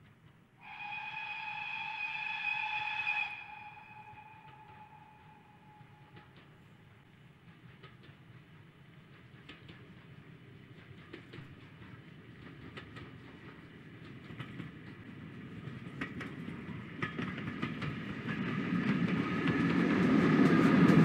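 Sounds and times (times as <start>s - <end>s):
steam train rumble: 0.0s - 21.0s
wheels clicking on rails: 3.9s - 21.0s.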